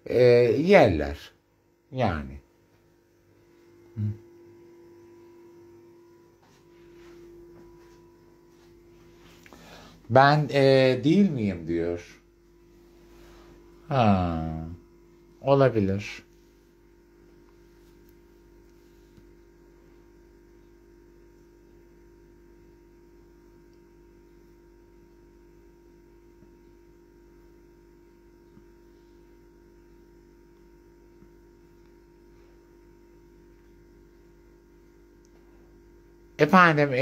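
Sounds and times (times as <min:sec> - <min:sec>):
faint electrical hum: 0:00.0 - 0:37.0.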